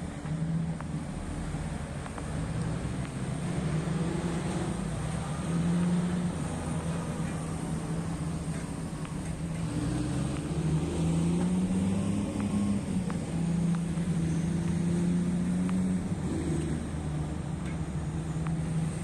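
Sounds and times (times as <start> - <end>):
large diesel engine under load: 0.0 - 19.0.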